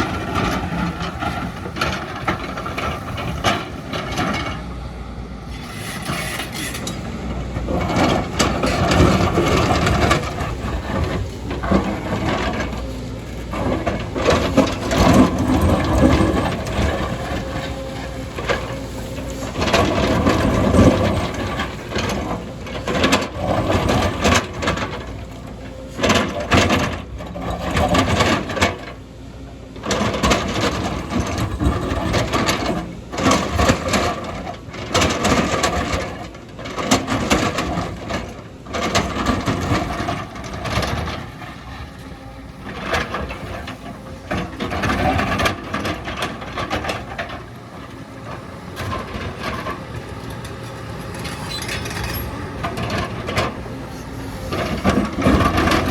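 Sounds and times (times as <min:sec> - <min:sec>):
excavator engine under load: 0:00.0 - 0:55.9.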